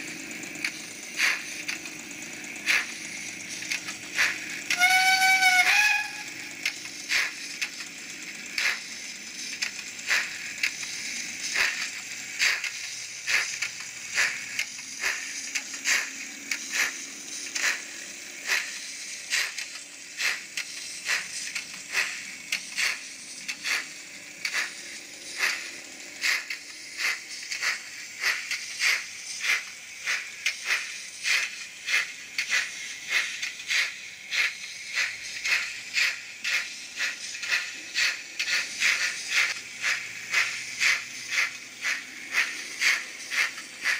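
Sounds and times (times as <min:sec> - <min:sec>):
steady steam hiss: 0:00.0 - 0:43.9
steam locomotive chuffing: 0:00.0 - 0:43.9.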